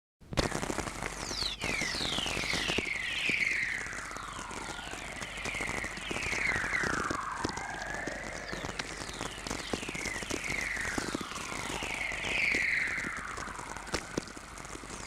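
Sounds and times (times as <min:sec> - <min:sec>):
radio static crackling: 0:00.3 - 0:15.0
descending radio whistling tones: 0:01.2 - 0:15.0.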